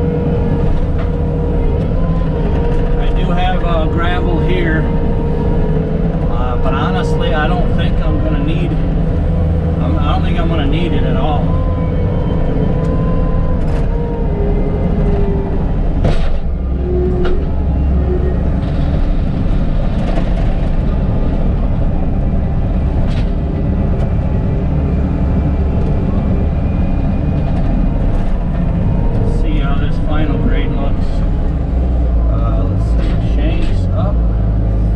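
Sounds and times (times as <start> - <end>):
diesel engine running under load: 0.0 - 34.9.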